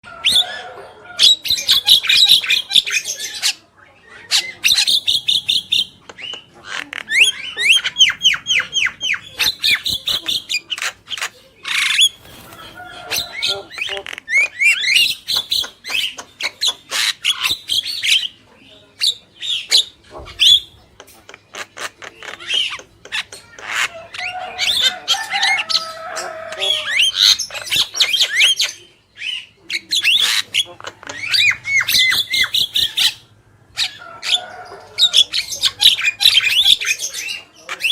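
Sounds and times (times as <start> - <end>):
birds chattering and whistling: 0.0 - 37.9.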